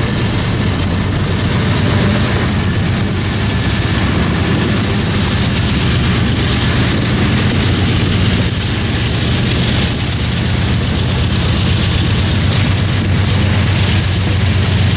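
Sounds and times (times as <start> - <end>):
freight train passing: 0.0 - 14.9.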